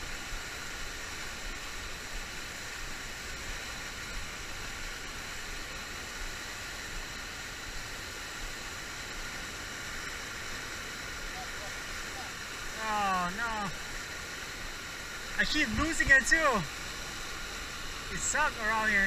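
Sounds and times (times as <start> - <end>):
whitewater rushing over dam: 0.0 - 19.0.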